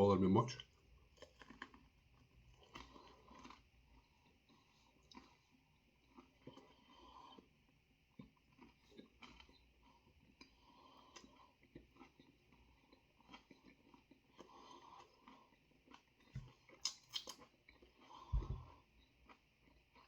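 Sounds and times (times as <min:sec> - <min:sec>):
chewing crunchy food: 0:00.6 - 0:20.0.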